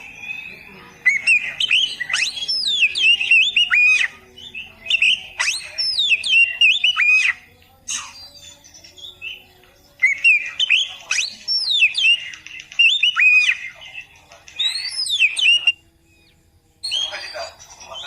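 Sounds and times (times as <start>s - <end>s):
bird singing whistled phrases: 0.0s - 18.0s.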